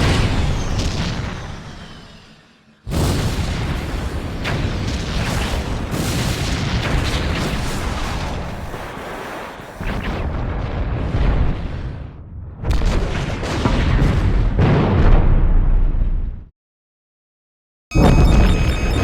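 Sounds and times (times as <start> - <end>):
heavy explosions: 0.0 - 2.2, 2.9 - 16.3.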